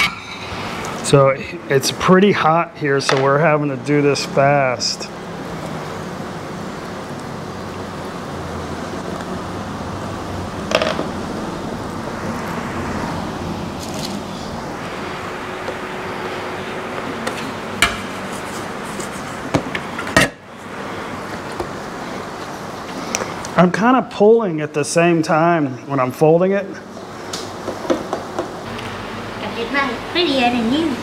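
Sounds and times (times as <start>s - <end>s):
background hiss and rumble: 0.0s - 31.0s.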